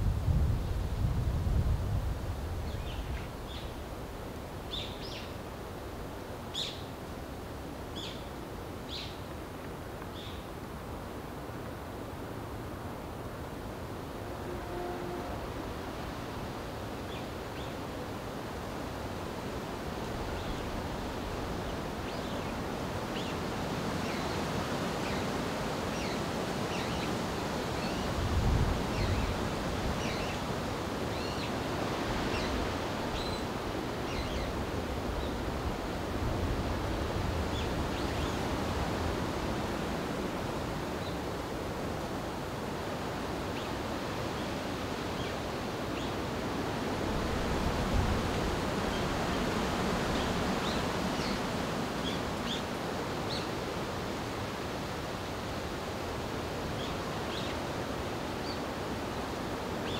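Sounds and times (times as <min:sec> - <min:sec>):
wind rushing through forest: 0:00.0 - 0:59.9.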